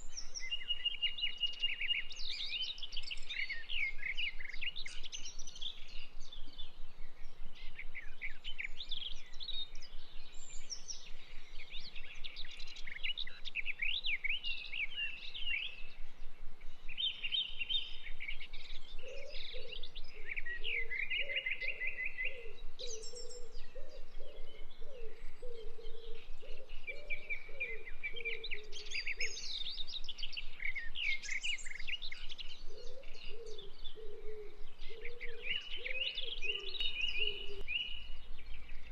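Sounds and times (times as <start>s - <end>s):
birds chirping in trills: 0.0s - 38.9s
low bird call: 7.3s - 38.9s.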